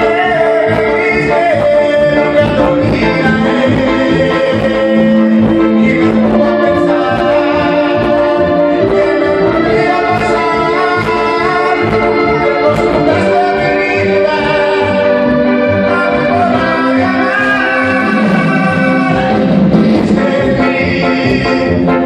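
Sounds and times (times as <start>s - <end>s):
brass melody of long held notes: 0.0s - 22.0s
steady bass beat: 0.0s - 22.0s.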